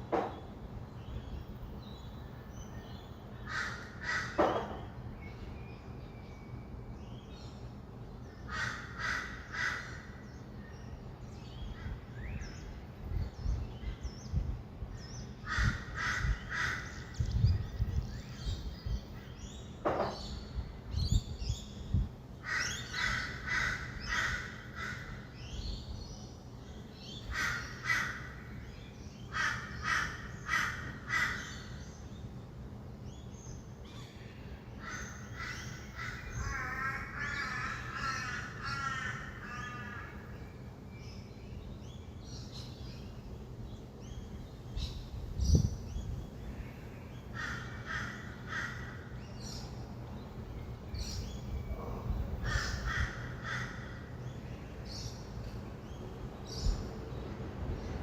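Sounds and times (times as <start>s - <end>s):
distant traffic rumble: 0.0s - 58.0s
harsh bird calls: 0.0s - 58.0s.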